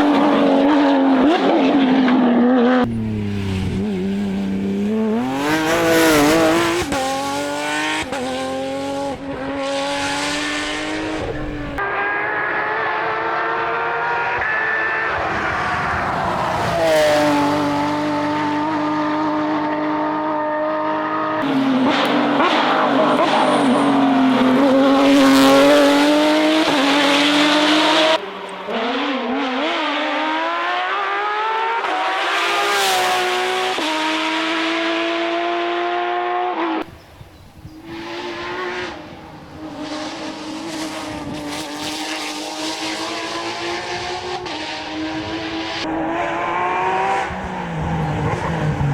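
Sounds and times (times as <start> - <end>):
rally car engines at high revs: 0.0 - 48.9.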